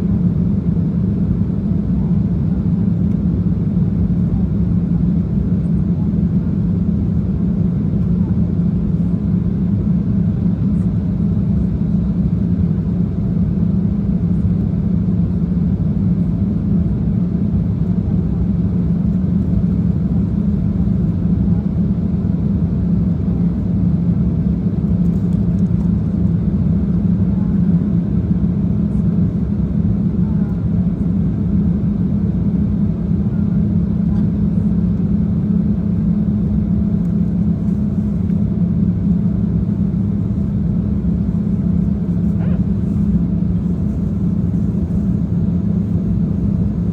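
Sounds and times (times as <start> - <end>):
airliner cabin drone: 0.0 - 46.9.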